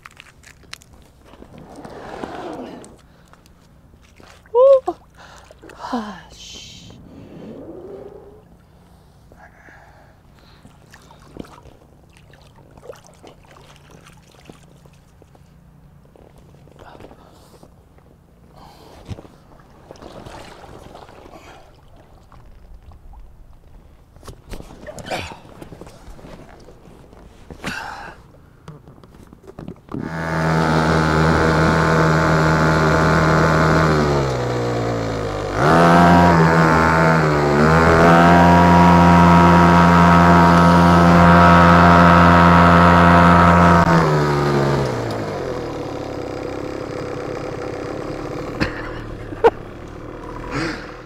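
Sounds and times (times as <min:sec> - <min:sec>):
outboard motor running: 0:00.1 - 0:51.0.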